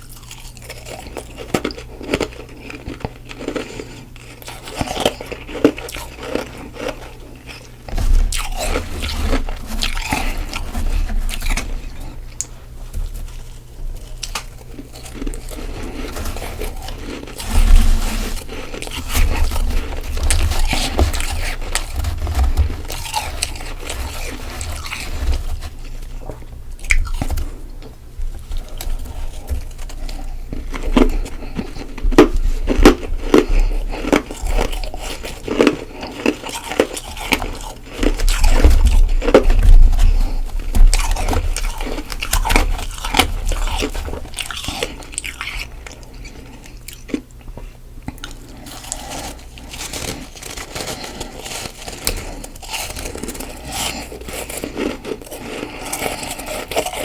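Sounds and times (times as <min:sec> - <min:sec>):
crunchy chewing of frost: 0:00.0 - 0:57.0.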